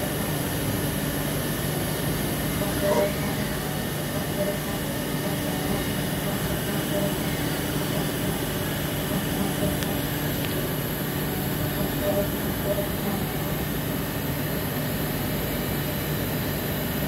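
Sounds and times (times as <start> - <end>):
faint machine whine: 0.0 - 17.0
lathe machine hum: 0.0 - 17.0.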